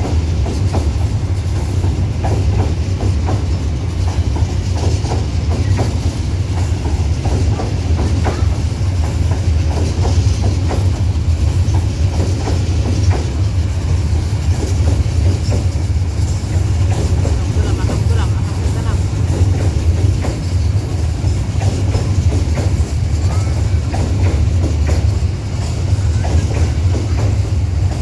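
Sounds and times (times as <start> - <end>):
train rumbling past: 0.0 - 28.0
wheel clacks over rail joints: 0.0 - 28.0.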